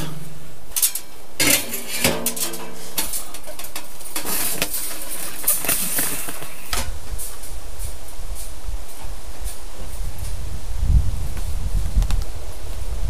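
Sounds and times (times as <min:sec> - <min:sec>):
rustling: 0:00.0 - 0:10.5.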